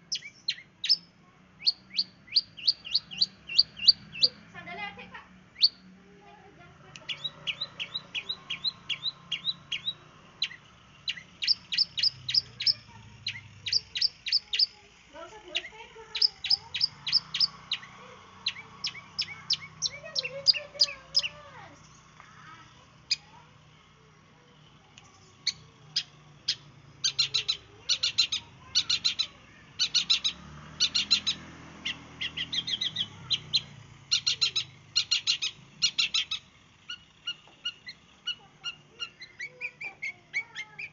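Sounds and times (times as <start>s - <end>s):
bird singing sharp high chips: 0.0s - 4.4s, 7.0s - 14.8s, 15.4s - 22.1s, 25.0s - 40.9s.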